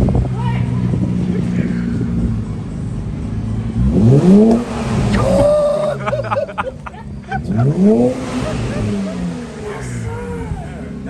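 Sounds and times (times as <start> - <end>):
exhaust crackles: 0.0 - 11.0
car engine revving: 0.8 - 11.0.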